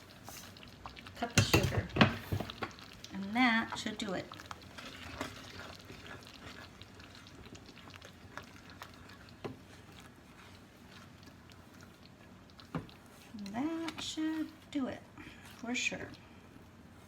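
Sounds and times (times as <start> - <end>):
jam bubbling and popping: 0.0 - 14.7
spoon stirring and scraping: 0.0 - 14.8.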